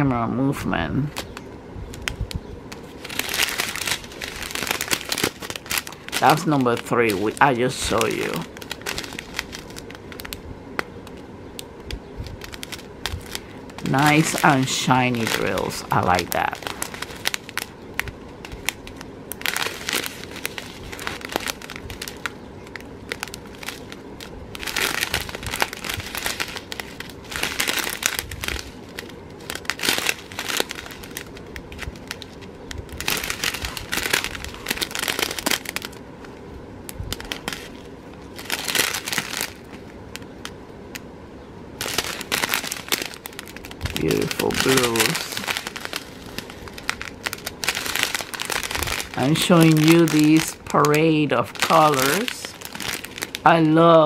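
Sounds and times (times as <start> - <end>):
plastic bags crinkling: 0.9 - 41.0, 41.8 - 54.0.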